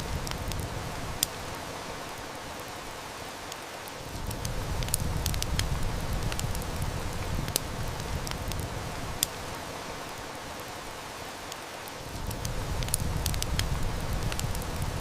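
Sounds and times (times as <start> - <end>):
heavy rain hiss: 0.0 - 15.0
wood fire crackling and popping: 0.0 - 15.0.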